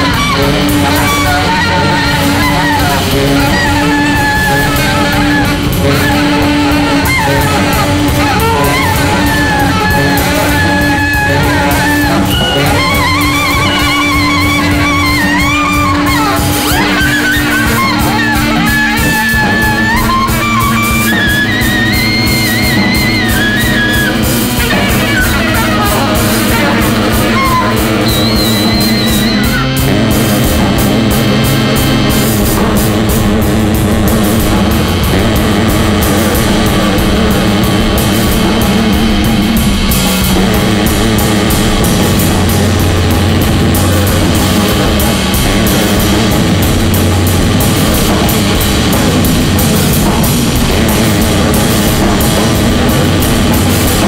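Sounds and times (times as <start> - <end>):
busy drums: 0.0 - 54.0
sustained droning tones: 0.0 - 54.0.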